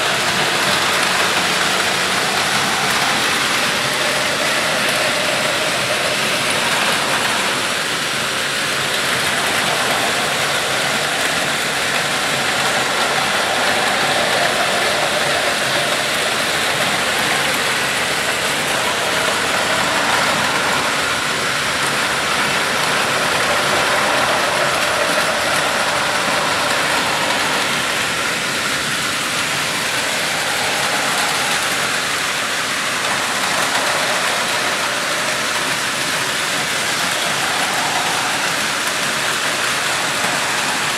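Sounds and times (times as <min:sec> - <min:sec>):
toy train motors whirring: 0:00.0 - 0:40.9.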